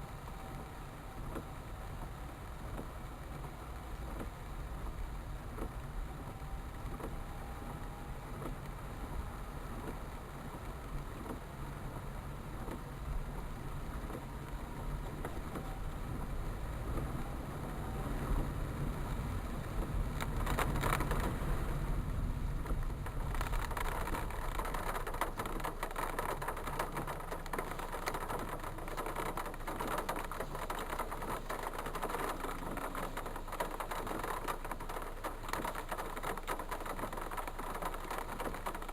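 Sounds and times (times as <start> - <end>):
vehicle and road noise rumble: 0.0 - 38.9.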